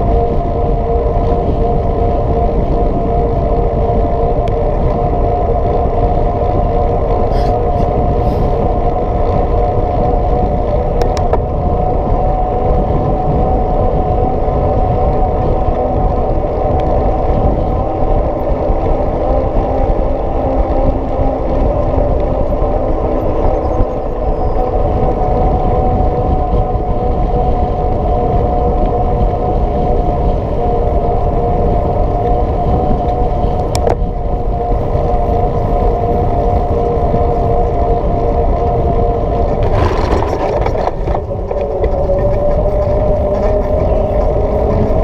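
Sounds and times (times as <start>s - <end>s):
bike tyres humming on asphalt: 0.0s - 45.0s
wind rumbling on microphone: 0.0s - 45.0s.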